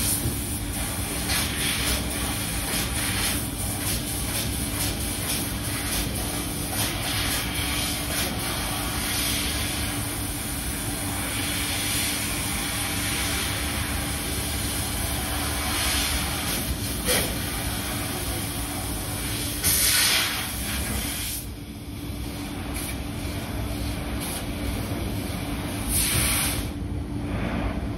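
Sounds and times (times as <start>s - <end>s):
laser cutter humming and hissing: 0.0s - 27.9s.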